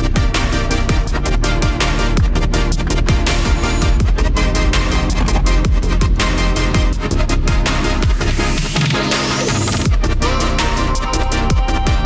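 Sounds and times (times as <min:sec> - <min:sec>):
dubstep music with bass drops: 0:00.0 - 0:12.0.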